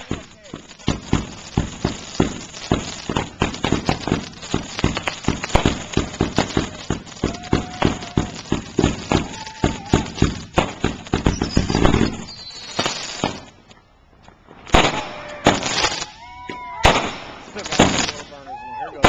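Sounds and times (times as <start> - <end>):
loud fireworks bangs: 0.0 - 13.7, 14.4 - 19.0
fireworks whistling: 0.0 - 13.8, 14.4 - 19.0
fireworks popping: 0.0 - 19.0.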